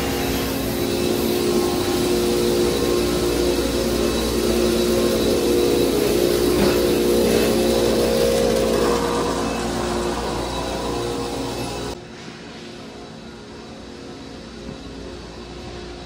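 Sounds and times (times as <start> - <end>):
factory machinery drone: 0.0 - 16.0.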